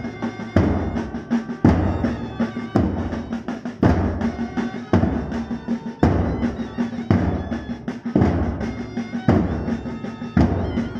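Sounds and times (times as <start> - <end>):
heavy bass drum strokes: 0.0 - 10.9
quick lighter drumming: 0.0 - 10.9.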